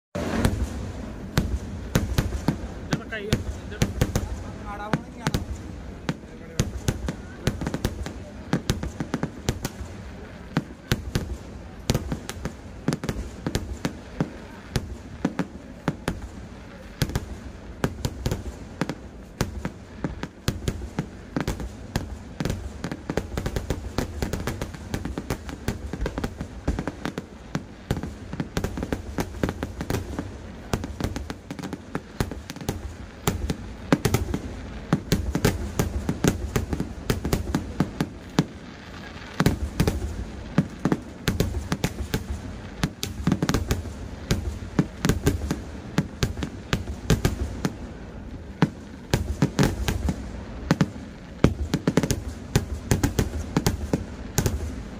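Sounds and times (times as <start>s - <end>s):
firecracker bangs and crackling: 0.1s - 54.9s.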